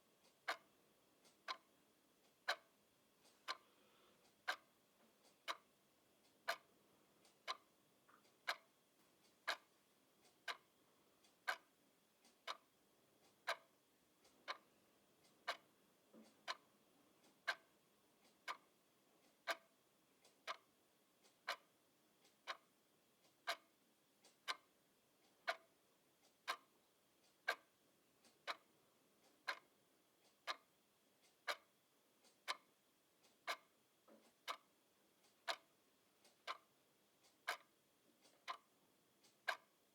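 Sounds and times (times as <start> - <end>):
clock ticking: 0.1 - 39.9.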